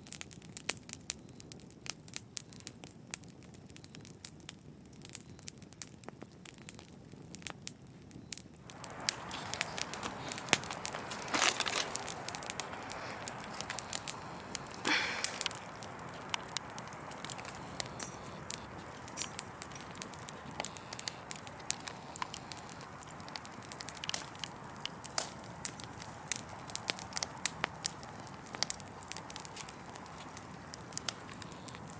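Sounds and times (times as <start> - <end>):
fire crackling and popping: 0.0 - 31.9.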